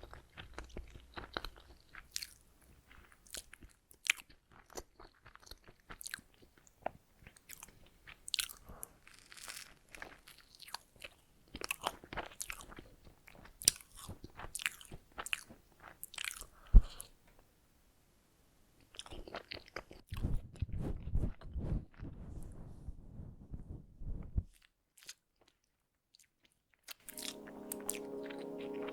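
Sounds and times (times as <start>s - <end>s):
crackly chewing of donuts: 0.0s - 17.2s, 18.8s - 22.3s, 24.5s - 27.4s.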